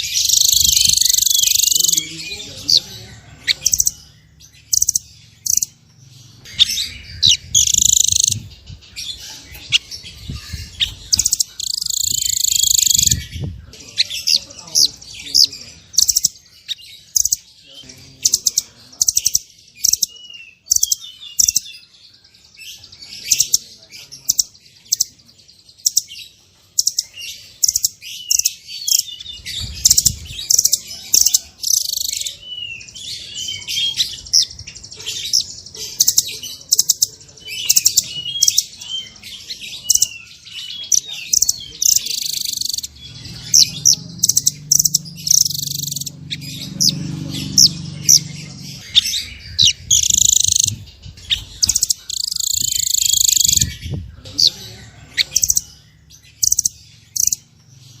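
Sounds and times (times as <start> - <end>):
small songbirds chirping and trilling: 0.0 - 58.0.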